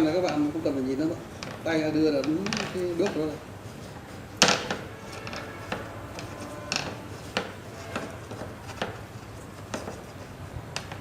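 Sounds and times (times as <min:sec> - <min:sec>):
tape crackling and clicking: 0:00.0 - 0:11.0.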